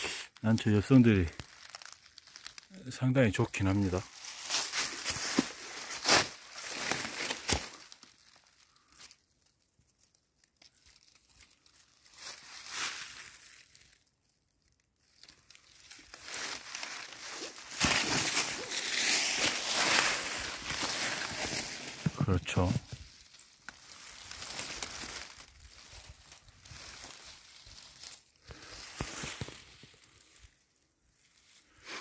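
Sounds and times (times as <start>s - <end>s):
dry leaves rustling and crunching: 0.5s - 31.6s.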